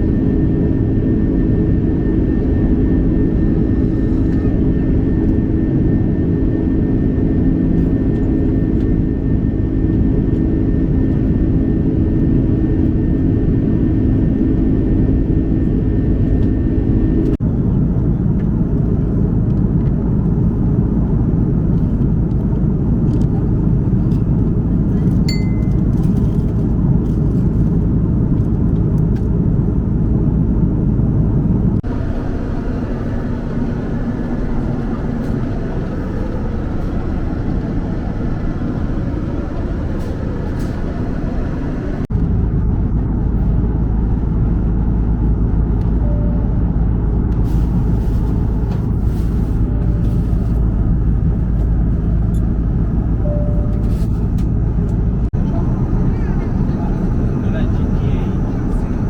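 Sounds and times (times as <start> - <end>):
jet airliner cabin rumble: 0.0 - 59.0.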